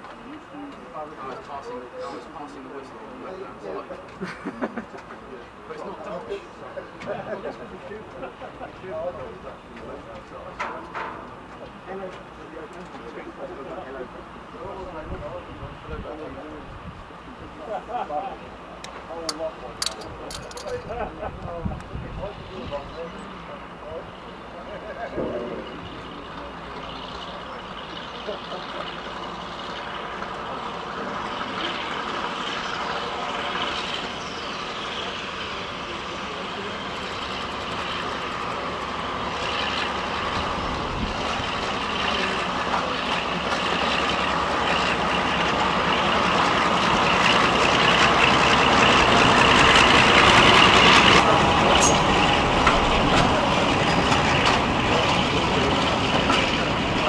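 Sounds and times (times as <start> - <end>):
diesel locomotive engines running: 0.0 - 57.0.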